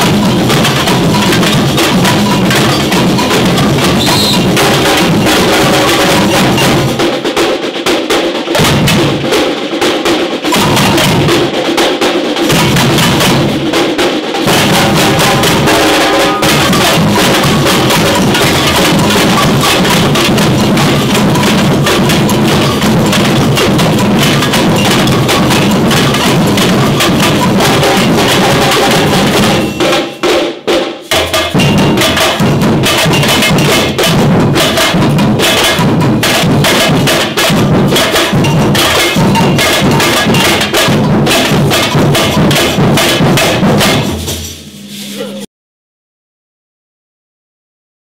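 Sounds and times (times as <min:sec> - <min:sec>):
frame drums in samba rhythm: 0:00.0 - 0:45.5.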